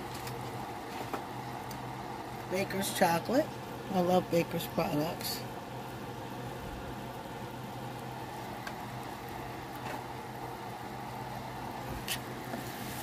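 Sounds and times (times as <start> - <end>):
pots simmering and bubbling: 0.0 - 13.0
steady low hum: 0.0 - 13.0.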